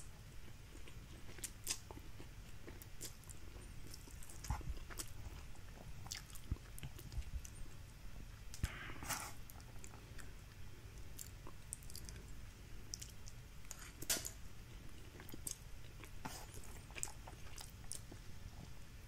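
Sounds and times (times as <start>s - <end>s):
chewing crunchy noodles: 0.4s - 7.8s, 9.4s - 14.0s, 14.8s - 18.7s.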